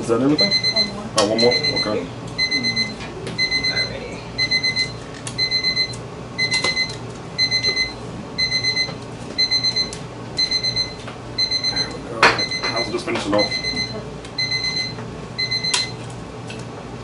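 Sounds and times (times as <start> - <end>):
electronic alarm beeping: 0.4 - 16.0.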